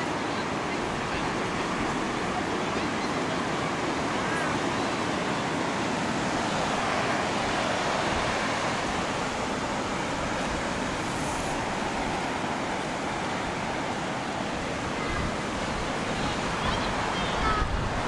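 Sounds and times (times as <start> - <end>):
surf breaking on beach: 0.0 - 18.0.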